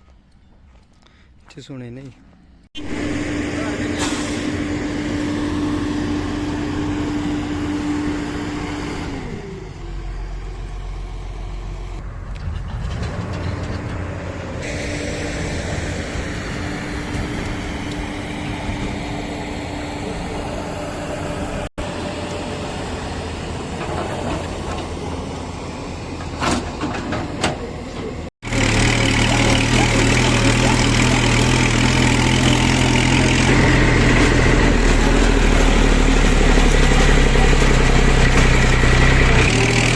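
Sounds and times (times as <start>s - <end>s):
diesel engines of heavy machinery: 0.0s - 39.9s.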